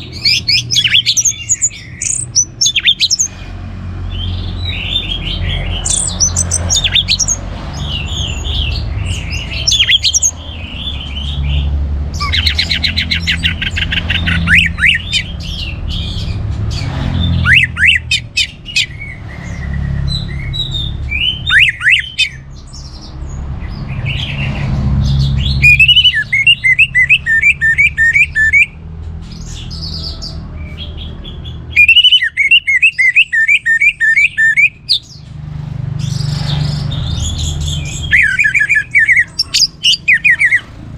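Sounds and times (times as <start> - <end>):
thrush singing trills and whistles: 0.0 - 23.1, 23.7 - 28.8, 29.4 - 35.2, 36.0 - 40.9.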